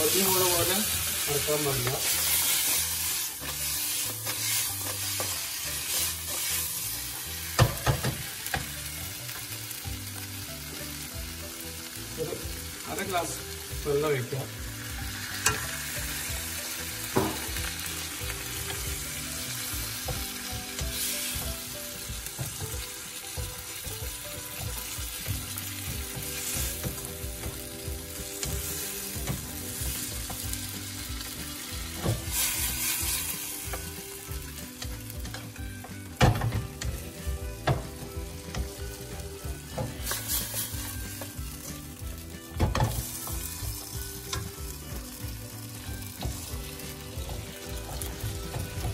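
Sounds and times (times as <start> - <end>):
vegetables sizzling in sauce: 0.0 - 48.9.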